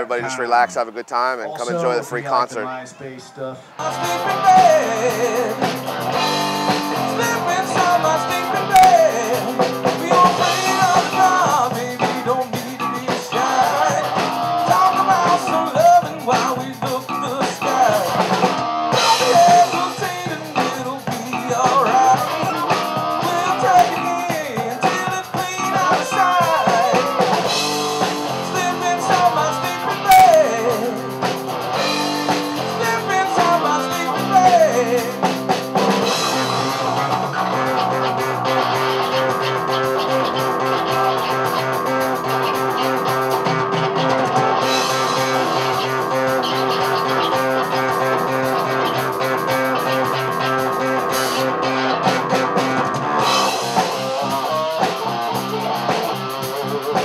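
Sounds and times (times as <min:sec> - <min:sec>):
electric guitar: 0:03.7 - 0:57.0
drum kit: 0:03.8 - 0:57.0.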